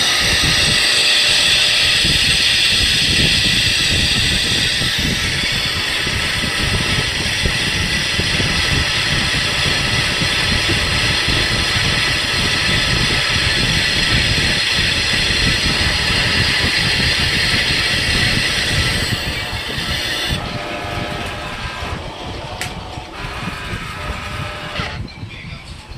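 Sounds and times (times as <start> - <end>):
hissing machine noise: 0.0 - 25.9.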